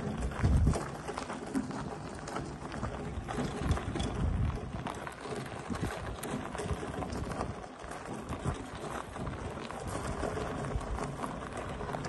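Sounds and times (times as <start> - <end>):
footsteps on gravel: 0.0 - 12.0
small tyres crunching on gravel: 0.0 - 12.0.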